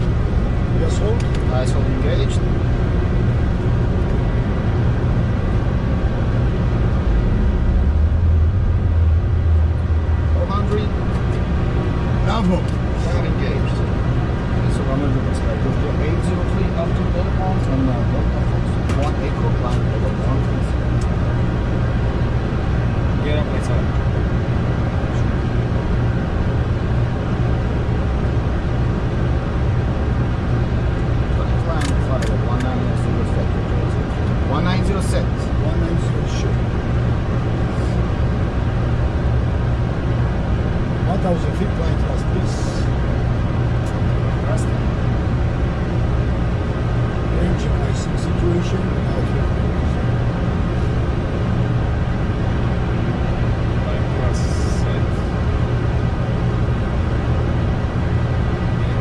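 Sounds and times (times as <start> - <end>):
aircraft engine and airflow noise: 0.0 - 59.0
low hum: 0.0 - 59.0.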